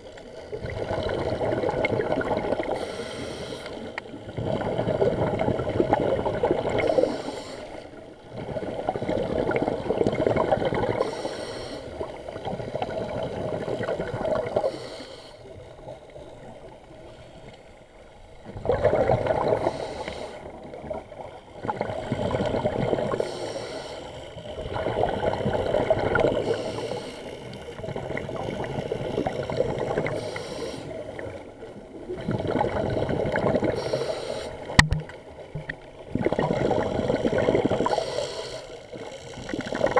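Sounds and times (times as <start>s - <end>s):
underwater bubbles from regulator: 0.0s - 14.9s, 18.4s - 23.4s, 24.4s - 39.9s.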